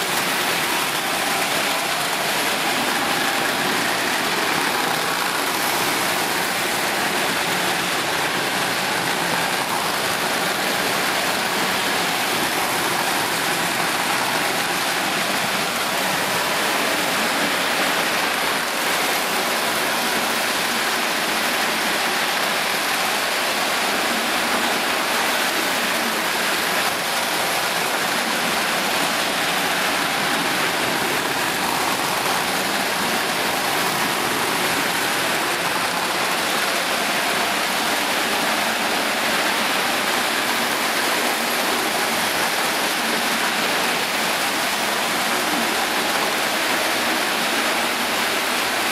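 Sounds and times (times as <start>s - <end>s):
toy train motors: 0.0s - 48.9s
toy train wheels on rails: 0.0s - 48.9s.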